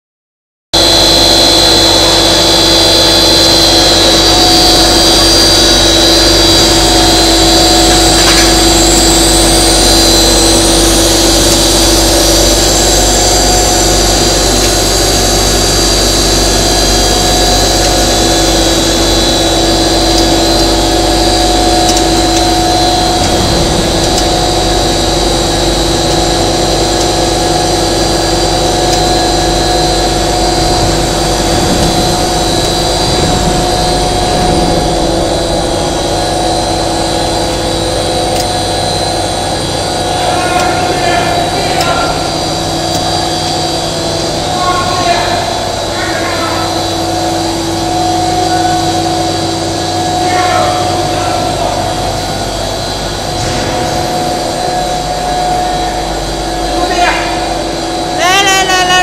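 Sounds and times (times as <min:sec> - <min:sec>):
machine hum and high whine: 0:00.8 - 0:59.0.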